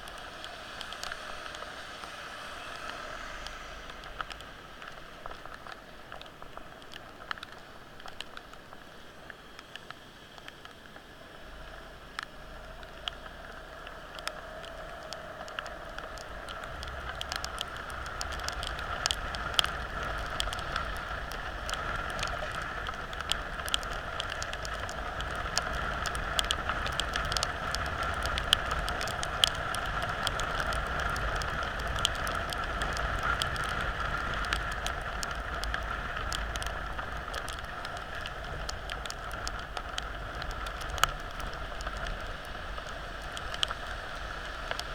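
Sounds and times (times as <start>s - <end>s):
heavy rain drops ticking: 0.0s - 44.9s
road travel rush and whine: 0.0s - 44.9s.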